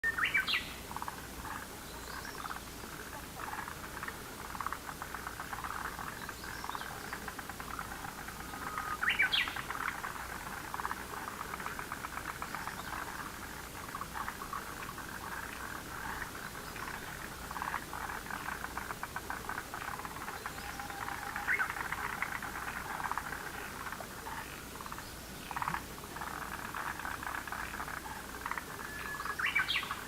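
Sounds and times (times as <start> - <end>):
frogs calling: 0.0 - 30.0.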